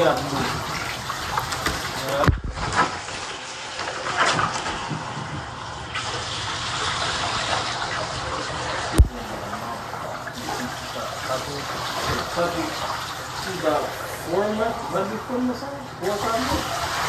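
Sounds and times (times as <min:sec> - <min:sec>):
bath water running: 0:00.0 - 0:17.0.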